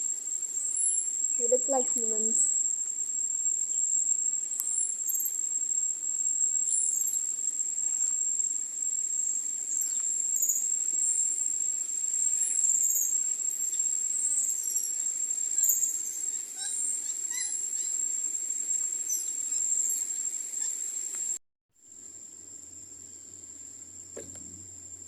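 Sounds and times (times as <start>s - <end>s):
insect high-pitched trill: 0.0s - 25.0s.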